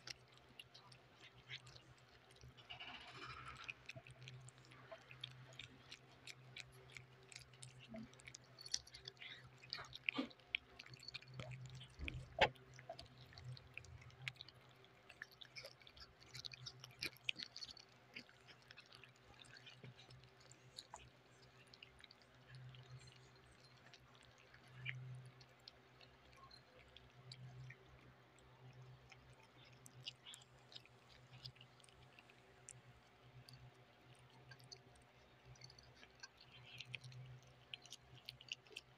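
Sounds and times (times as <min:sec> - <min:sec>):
cats chewing and licking: 0:00.0 - 0:38.9.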